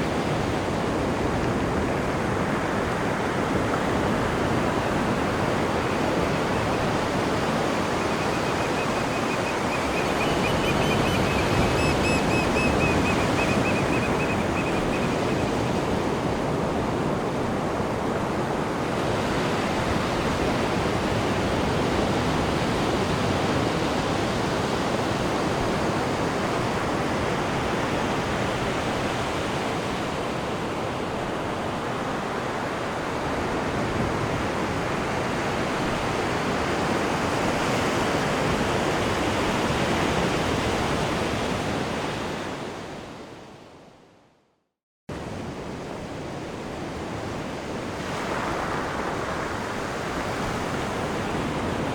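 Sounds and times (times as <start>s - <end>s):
water rushing in ship wake: 0.0s - 42.4s.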